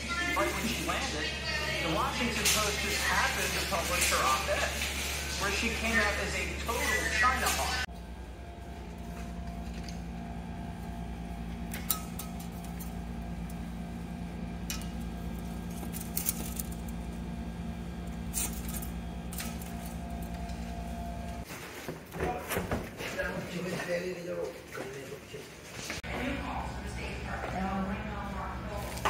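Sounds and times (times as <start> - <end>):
low machine hum: 0.0 - 21.5, 26.0 - 29.0.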